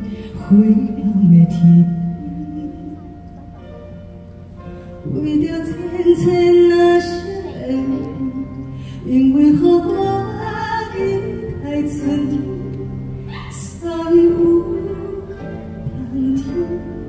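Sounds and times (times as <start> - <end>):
woman singing: 0.0 - 3.3, 5.0 - 17.0
instrumental accompaniment: 0.0 - 17.0.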